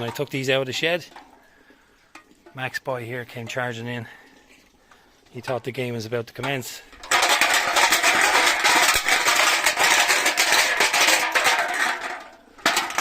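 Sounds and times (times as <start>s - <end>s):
beer cans rattling: 0.0s - 13.0s.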